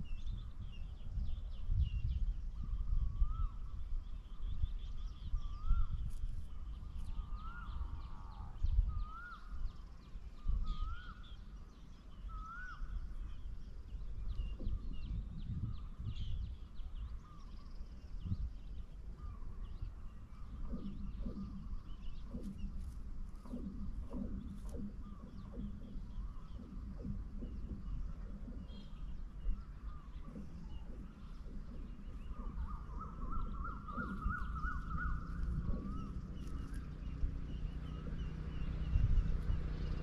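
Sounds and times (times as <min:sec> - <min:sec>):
small birds chirping: 0:00.0 - 0:40.0
wind rumble on microphone: 0:00.0 - 0:40.0
whistled bird call: 0:01.8 - 0:39.7.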